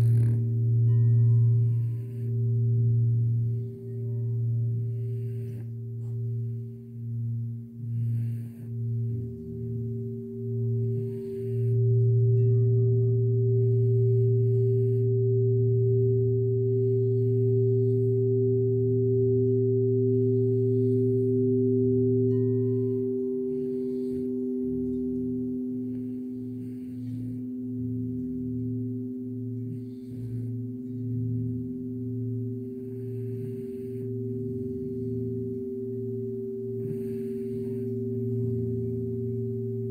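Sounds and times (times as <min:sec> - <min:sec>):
crystal singing bowl ringing: 0:00.0 - 0:39.9.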